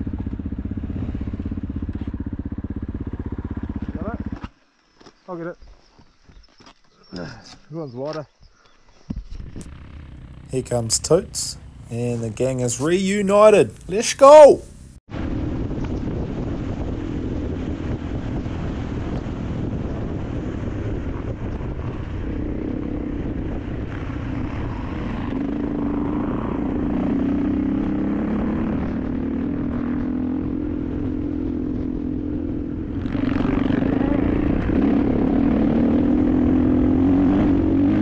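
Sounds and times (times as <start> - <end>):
motorcycle engine running: 0.0 - 4.8, 9.1 - 14.0, 14.7 - 38.0.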